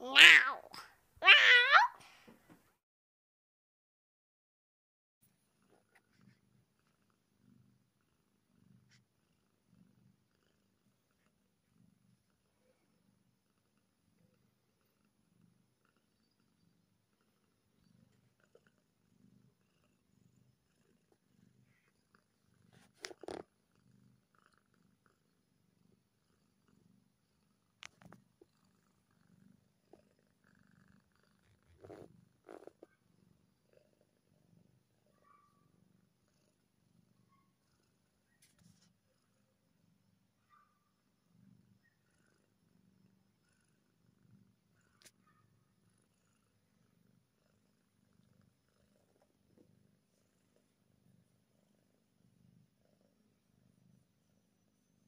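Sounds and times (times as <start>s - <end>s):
cat purring: 5.3s - 55.0s.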